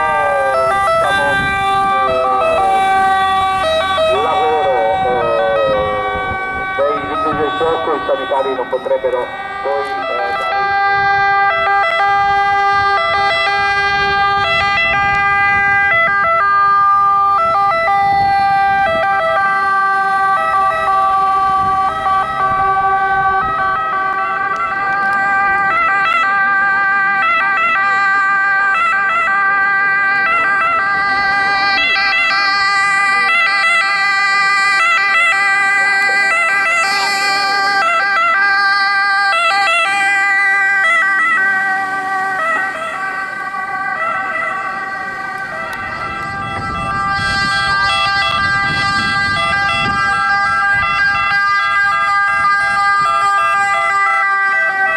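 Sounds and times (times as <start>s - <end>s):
ambulance siren: 0.0s - 54.9s.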